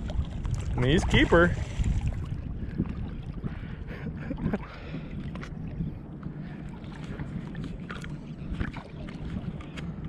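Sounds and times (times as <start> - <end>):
low rumble: 0.0 - 10.0
water sloshing and lapping: 0.0 - 10.0.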